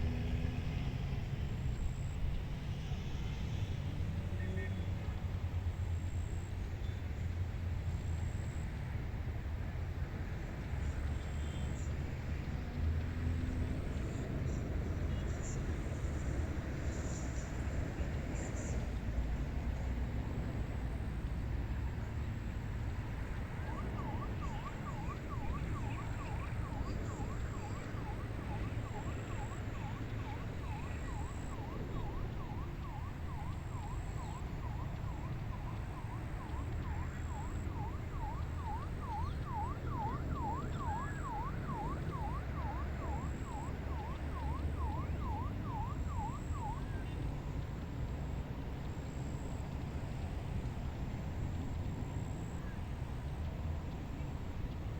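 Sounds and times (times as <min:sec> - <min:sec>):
distant siren yelping: 0:00.1 - 0:54.9.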